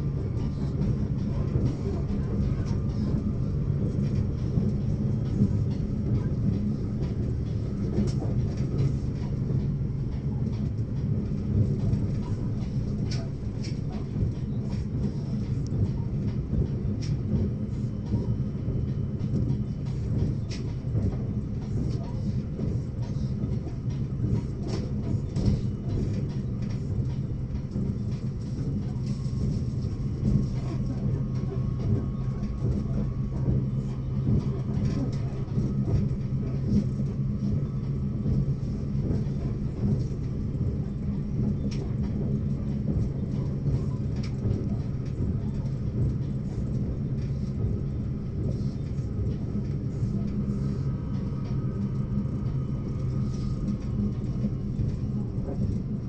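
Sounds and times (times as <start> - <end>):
vehicle rumbling in motion: 0.0 - 56.0.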